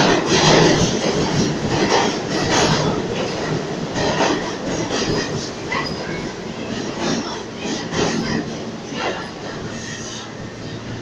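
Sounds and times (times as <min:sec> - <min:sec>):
subway train wheels clattering: 0:00.0 - 0:11.0.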